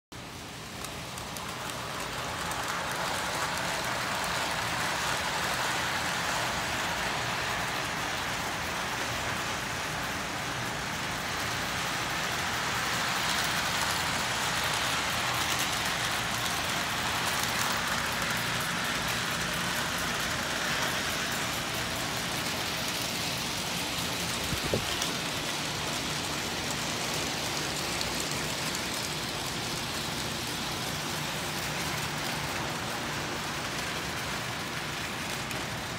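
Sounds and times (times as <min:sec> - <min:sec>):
model train wheels rattling on rails: 0:00.2 - 0:35.9.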